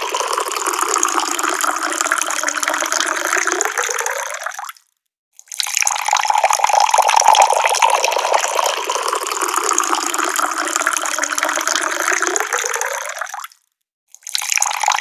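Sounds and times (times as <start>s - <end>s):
water pouring from a tap: 0.0s - 4.8s, 5.4s - 13.6s, 14.2s - 15.0s.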